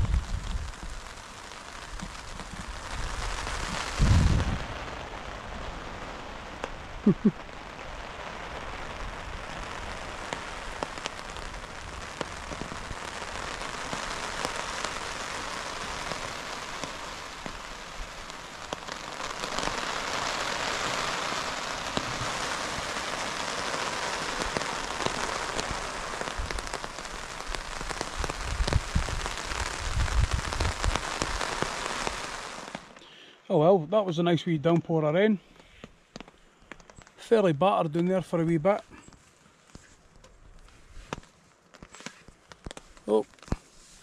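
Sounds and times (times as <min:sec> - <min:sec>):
rain on a tarp: 0:00.0 - 0:33.0, 0:35.6 - 0:44.0.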